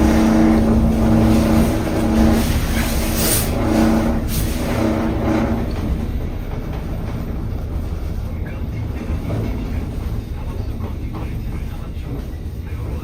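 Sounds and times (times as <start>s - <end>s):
low rumble of moving vehicle: 0.0s - 13.0s.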